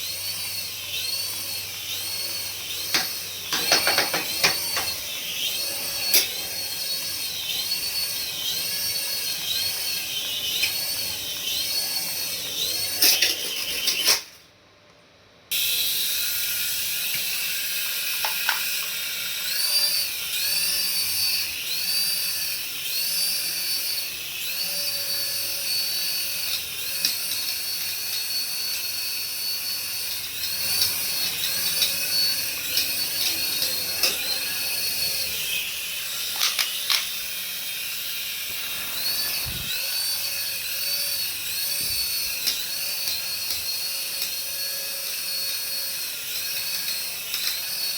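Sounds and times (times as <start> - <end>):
toy electric motor whining: 0.0 - 14.5, 15.5 - 47.9.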